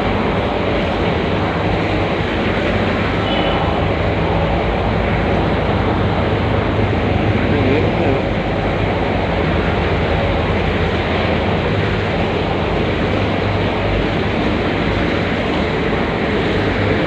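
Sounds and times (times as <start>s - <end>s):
rushing noise: 0.0s - 17.0s
ship engine droning: 0.0s - 17.0s.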